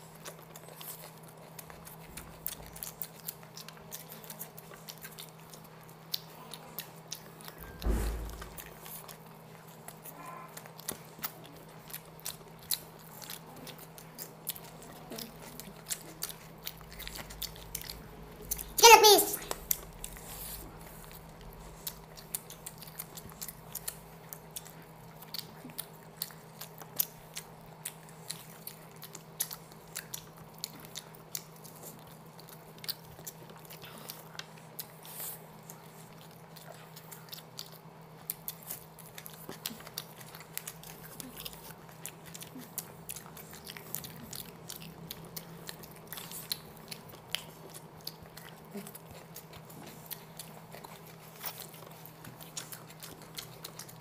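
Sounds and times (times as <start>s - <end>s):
people chewing food: 0.0s - 54.0s
eating clicks and smacks: 0.1s - 54.0s.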